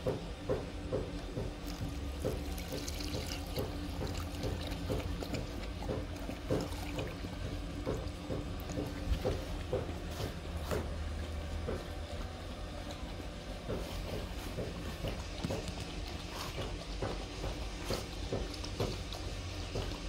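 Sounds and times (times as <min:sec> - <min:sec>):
dog lapping milk: 0:01.1 - 0:10.4, 0:12.8 - 0:20.0.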